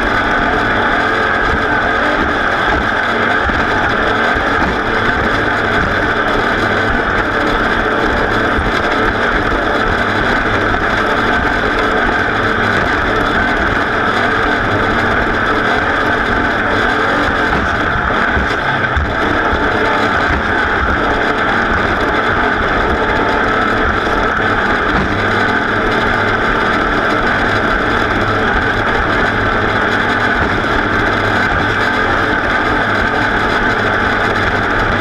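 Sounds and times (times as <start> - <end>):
racing engine at high revs: 0.0 - 35.0.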